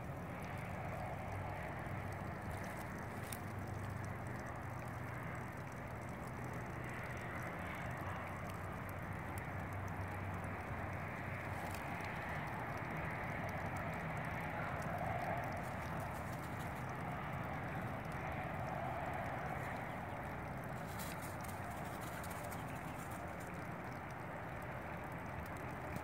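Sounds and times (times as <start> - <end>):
continuous even hiss: 0.0 - 26.0.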